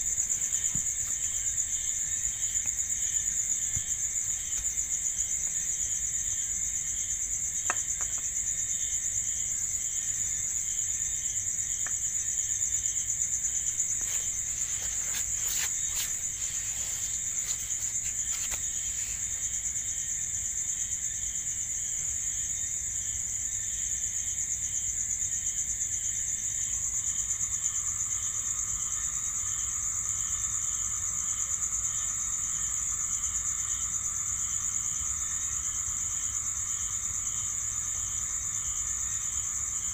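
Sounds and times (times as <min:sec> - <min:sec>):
faint insect trill: 0:00.0 - 0:39.9
high insect trill: 0:00.0 - 0:39.9
pulsing insect chirp: 0:00.0 - 0:39.9.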